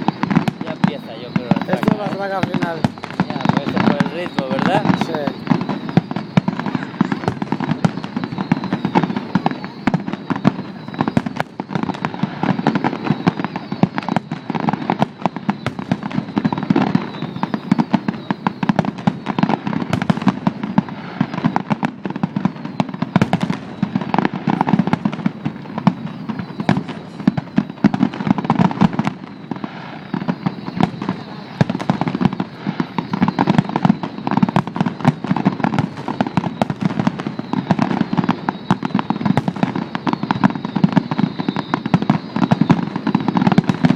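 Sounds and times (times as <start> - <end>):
fireworks barrage: 0.0 - 43.9.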